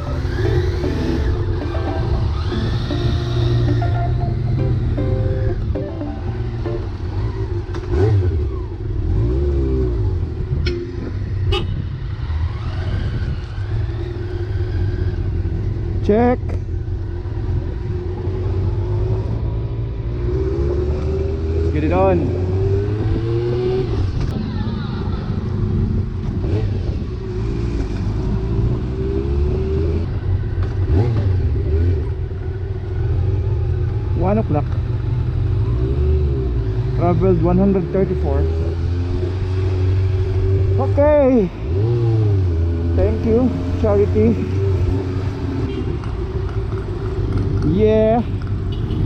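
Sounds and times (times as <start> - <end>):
motorcycle engine rumbling: 0.0 - 20.2, 29.6 - 49.0
road noise: 0.0 - 49.0.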